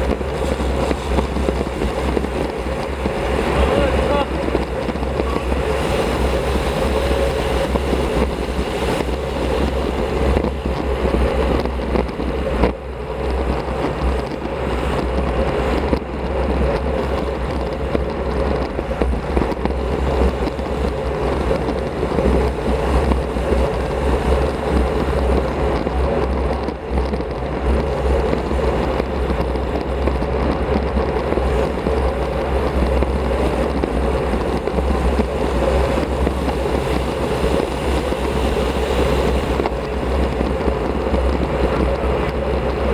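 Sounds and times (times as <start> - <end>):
tyres rumbling on road: 0.0 - 42.9
wind noise on microphone: 0.0 - 42.9.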